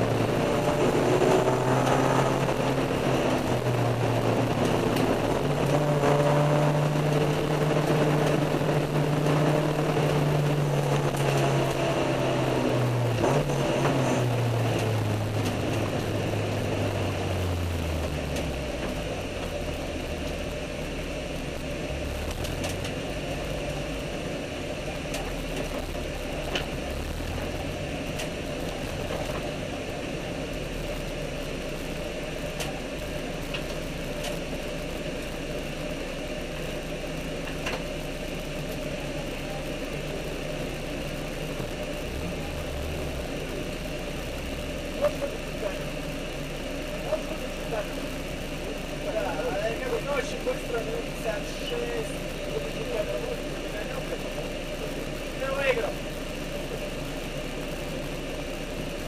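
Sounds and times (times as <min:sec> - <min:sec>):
car engine revs falling: 0:00.0 - 0:35.8, 0:36.7 - 0:59.0.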